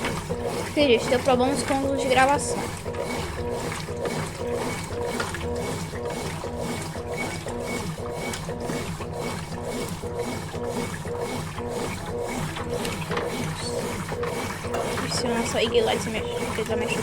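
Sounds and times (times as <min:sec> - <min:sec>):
washing machine pulsing motor hum: 0:00.0 - 0:17.0.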